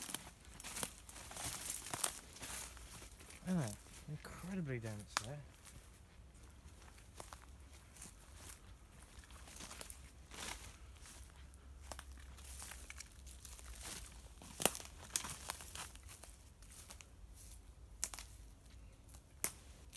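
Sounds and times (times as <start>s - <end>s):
twigs and leaves crackling underfoot: 0.0s - 19.9s.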